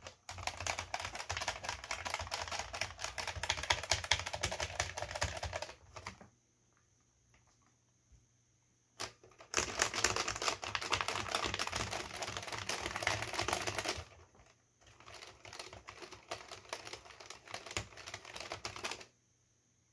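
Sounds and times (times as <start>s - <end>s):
keyboard typing clatter: 0.0s - 6.3s, 9.0s - 19.1s.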